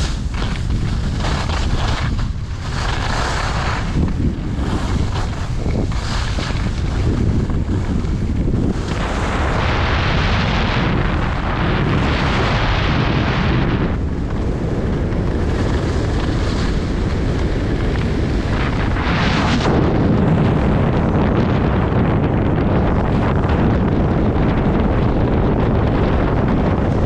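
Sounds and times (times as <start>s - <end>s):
skis carving on packed snow: 0.0s - 27.0s
wind buffeting on microphone: 0.0s - 27.0s.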